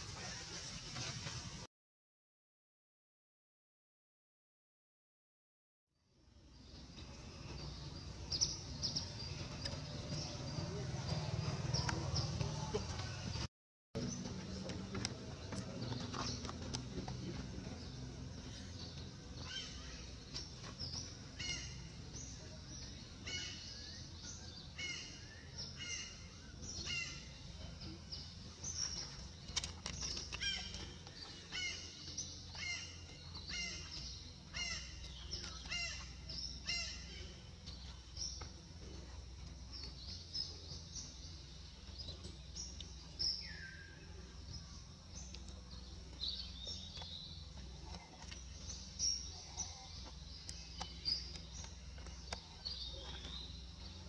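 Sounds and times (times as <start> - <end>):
low background hum: 6.2 - 54.0
birds chirping: 6.3 - 54.0.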